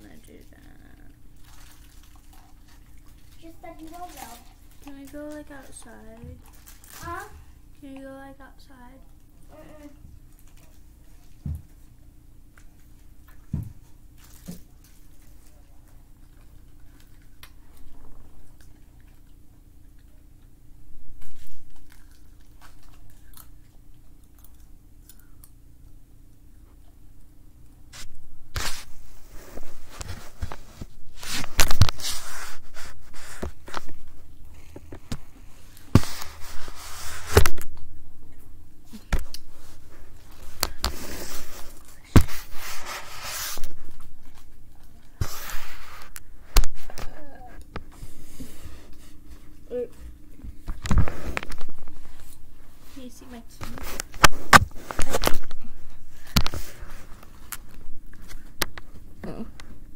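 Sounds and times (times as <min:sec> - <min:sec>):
soft chewing: 0:00.1 - 0:08.1, 0:09.0 - 0:59.9.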